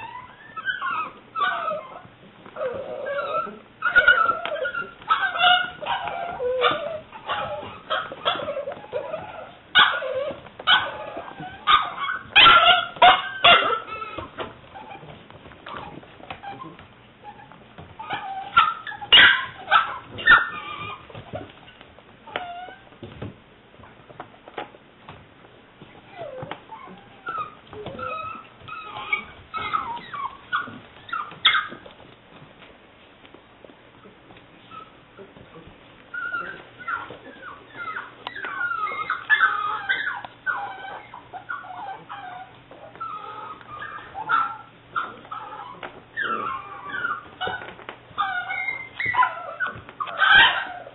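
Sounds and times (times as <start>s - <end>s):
puppy yipping: 0.0s - 22.9s, 26.0s - 32.1s, 34.6s - 35.3s, 36.1s - 50.9s
puppy whimpering: 0.0s - 23.1s, 26.0s - 32.1s, 34.0s - 50.9s.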